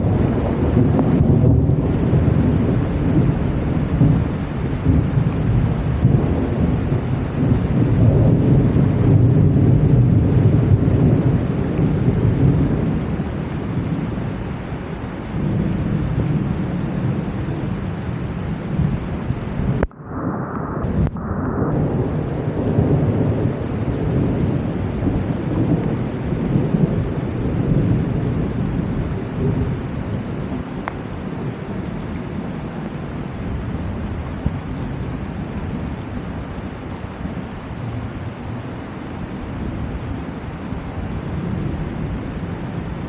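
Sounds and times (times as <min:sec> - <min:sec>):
heavy rain: 0:00.0 - 0:43.0
low rumble of thunder: 0:00.0 - 0:43.0.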